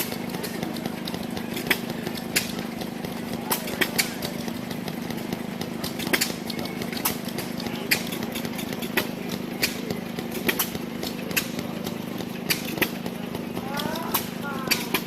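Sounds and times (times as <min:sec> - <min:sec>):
engine idling with ticks: 0:00.0 - 0:15.0.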